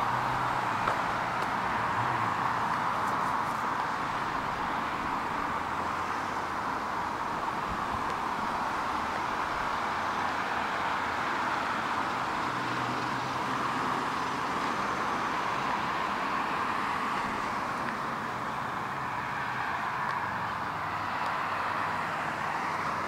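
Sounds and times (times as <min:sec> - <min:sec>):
cars passing: 0:00.0 - 0:23.0.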